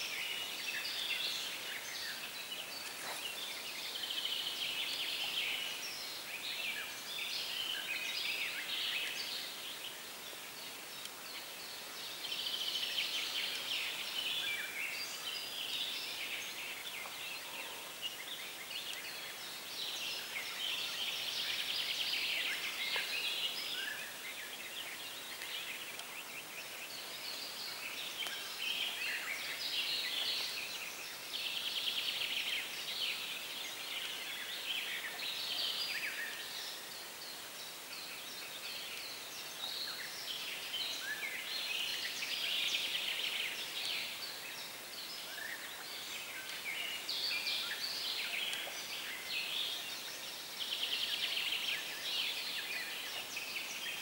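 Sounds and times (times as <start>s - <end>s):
faint steady hiss: 0.0s - 54.0s
songbirds singing trills: 0.0s - 54.0s.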